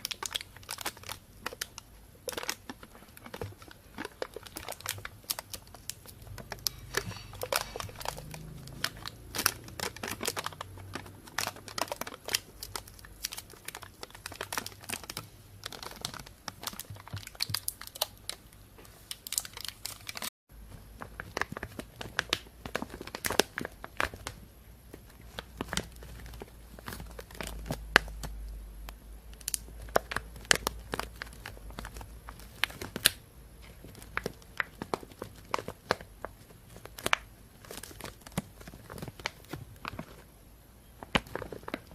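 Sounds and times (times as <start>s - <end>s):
plastic bag crinkling: 0.0s - 28.5s, 29.3s - 40.3s, 41.0s - 41.9s.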